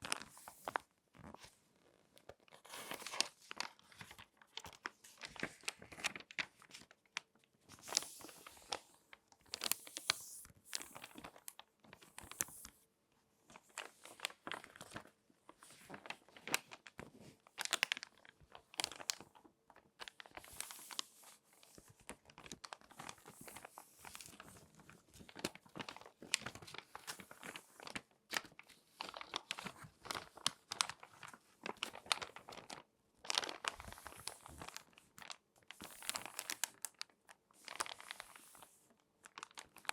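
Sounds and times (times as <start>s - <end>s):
magazine pages crinkling: 2.2s - 12.7s, 13.5s - 39.9s.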